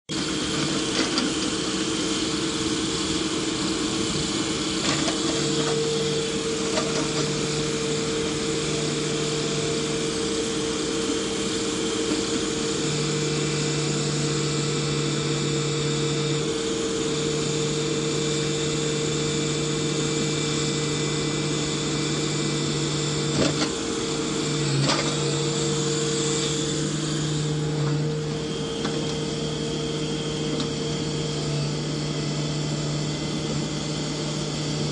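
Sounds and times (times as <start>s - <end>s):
excavator engine and hydraulics whining: 0.1s - 34.9s.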